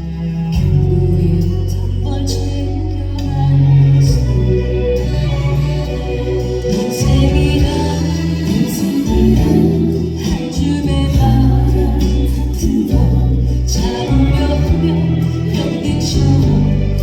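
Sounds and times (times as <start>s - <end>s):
backing track with bass: 0.0s - 17.0s
person singing slow song: 0.0s - 17.0s.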